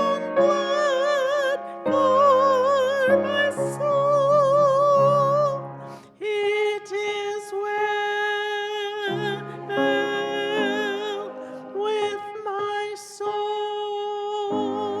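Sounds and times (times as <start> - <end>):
person singing a hymn: 0.0 - 15.0
piano accompaniment: 0.0 - 15.0.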